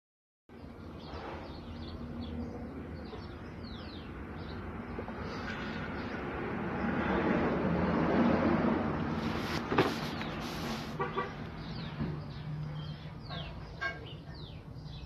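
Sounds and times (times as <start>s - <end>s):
small birds chirping: 0.5s - 7.2s, 9.0s - 15.0s.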